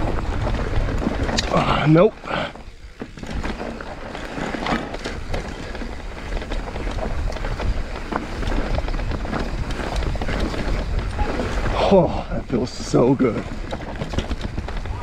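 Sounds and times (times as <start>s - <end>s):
bike clicks and rattles: 0.0s - 15.0s
tyres rolling over loose dirt: 0.0s - 15.0s
wind buffeting microphone: 0.0s - 15.0s.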